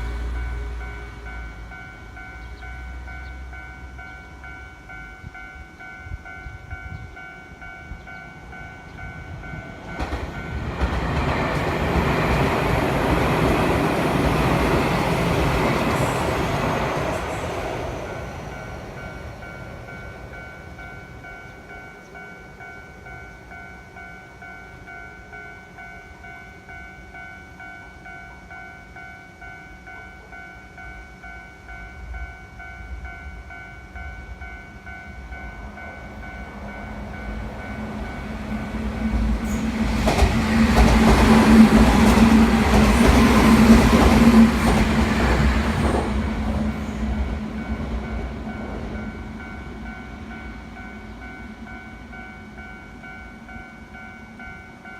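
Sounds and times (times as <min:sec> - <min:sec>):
train passing: 0:00.0 - 0:54.9.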